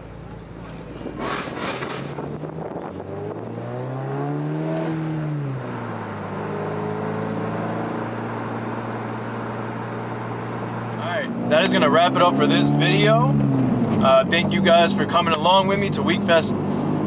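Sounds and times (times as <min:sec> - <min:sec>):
car engine from inside while driving: 0:00.0 - 0:17.0.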